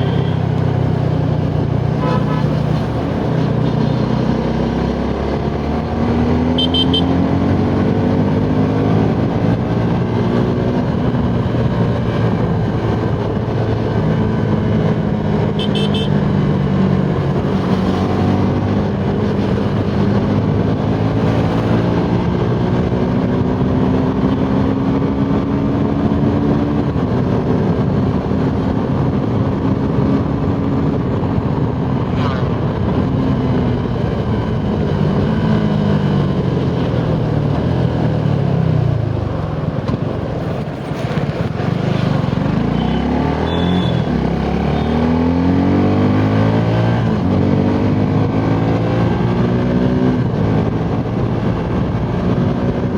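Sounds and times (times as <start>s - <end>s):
wind and road rush: 0.0s - 52.9s.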